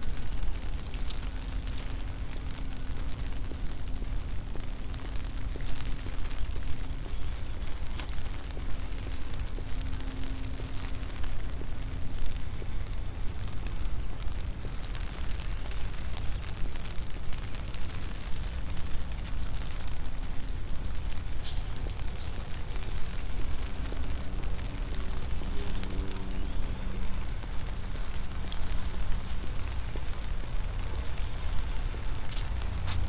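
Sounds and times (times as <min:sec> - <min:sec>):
low rain rumble: 0:00.0 - 0:33.0
raindrops ticking: 0:00.0 - 0:33.0.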